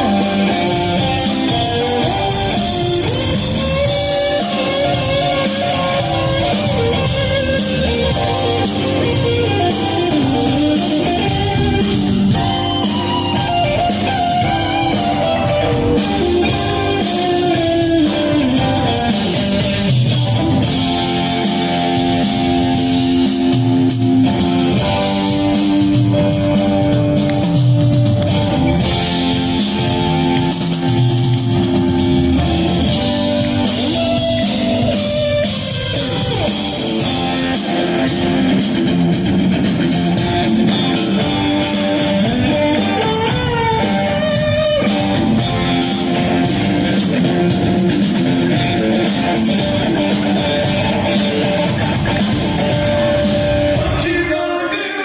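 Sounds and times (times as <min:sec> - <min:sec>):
drum kit: 0:00.0 - 0:55.0
guitar: 0:00.0 - 0:55.0.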